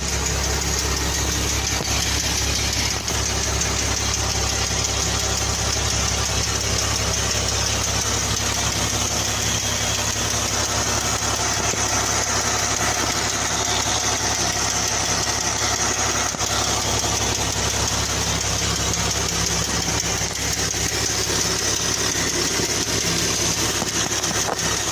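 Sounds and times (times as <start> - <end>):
car engine idling: 0.0 - 24.9
valvetrain ticking: 0.0 - 24.9.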